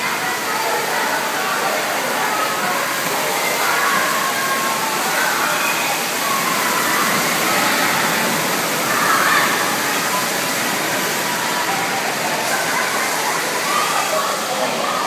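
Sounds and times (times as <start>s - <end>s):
faint indistinct voices: 0.0s - 15.0s
fountain water splashing into pool: 0.0s - 15.0s.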